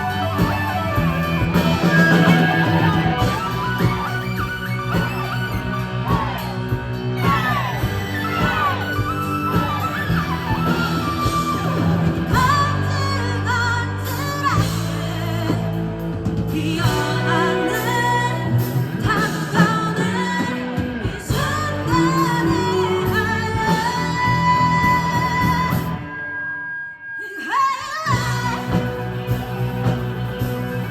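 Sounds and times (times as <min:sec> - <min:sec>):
bass guitar: 0:00.0 - 0:26.2, 0:28.1 - 0:30.9
drums: 0:00.0 - 0:26.5, 0:27.2 - 0:30.9
electric guitar: 0:00.0 - 0:30.9
singer vocals: 0:00.0 - 0:30.9.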